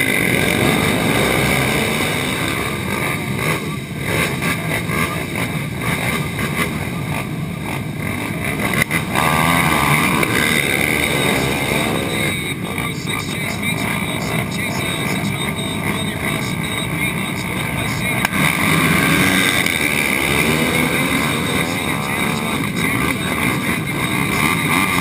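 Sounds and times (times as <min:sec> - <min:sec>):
quad engines idling and revving: 0:00.0 - 0:25.0.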